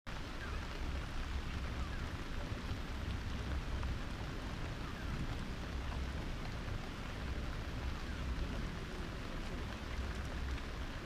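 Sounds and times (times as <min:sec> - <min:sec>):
steady rain falling: 0:00.1 - 0:11.0.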